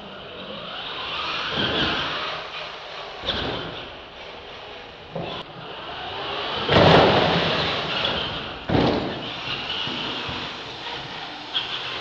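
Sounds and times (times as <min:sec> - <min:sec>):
toy truck motors whining: 0:00.0 - 0:12.0.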